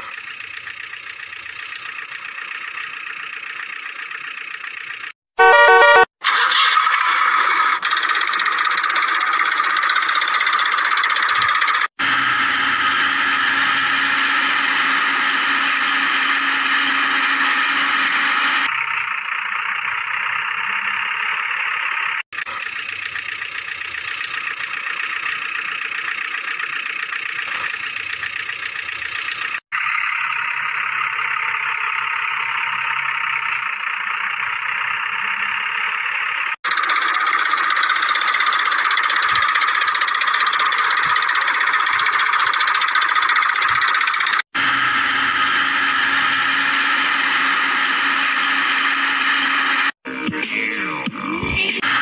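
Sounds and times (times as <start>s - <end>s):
small motor running: 0.0s - 50.0s, 51.8s - 52.0s.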